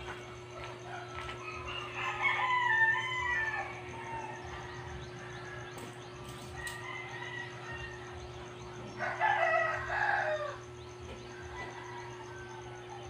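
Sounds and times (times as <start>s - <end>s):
steady low hum: 0.0s - 13.0s
rooster crowing: 0.6s - 13.0s.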